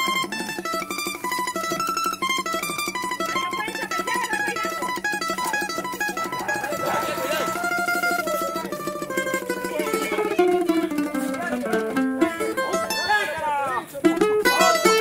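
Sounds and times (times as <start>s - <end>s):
fast strummed accompaniment: 0.0s - 15.0s
plucked string melody: 0.0s - 15.0s.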